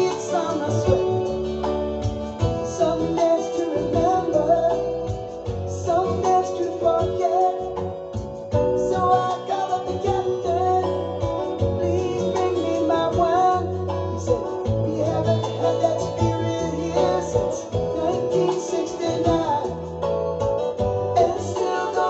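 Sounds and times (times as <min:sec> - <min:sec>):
acoustic guitar: 0:00.0 - 0:22.0
person singing: 0:00.0 - 0:22.0.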